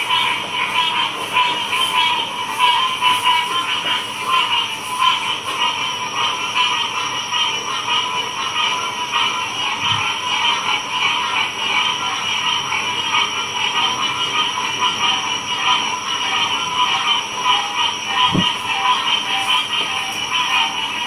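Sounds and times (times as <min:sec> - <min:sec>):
chorus of frogs calling: 0:00.0 - 0:21.0.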